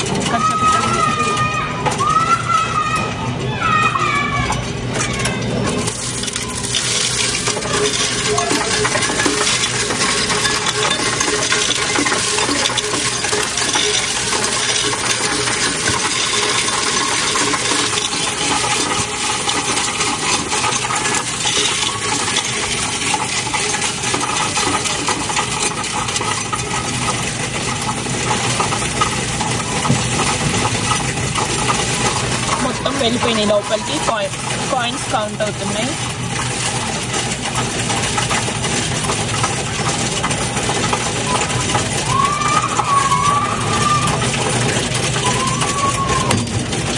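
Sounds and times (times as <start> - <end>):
coins clattering in counting machine: 0.0 - 46.9.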